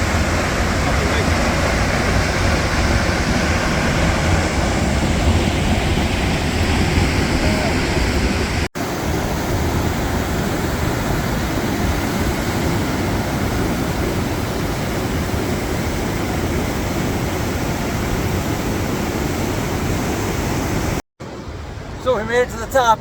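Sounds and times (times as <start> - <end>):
waterfall roar: 0.0 - 23.0.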